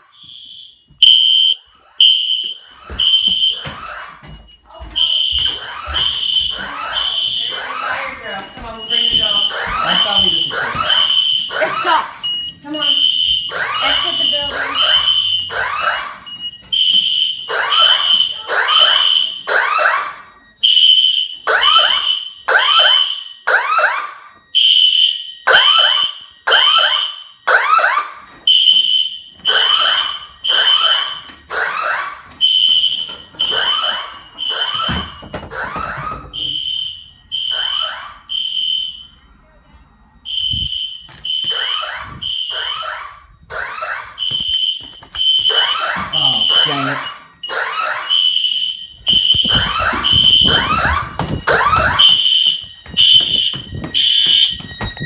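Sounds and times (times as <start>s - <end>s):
fire alarm beeping and sweeping: 0.0s - 55.0s.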